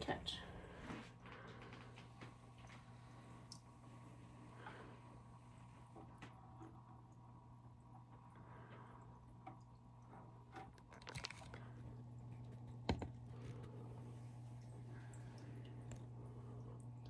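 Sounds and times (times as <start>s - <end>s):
steady low hum: 0.0s - 17.0s
water sloshing and dripping: 1.2s - 4.8s, 5.5s - 17.0s.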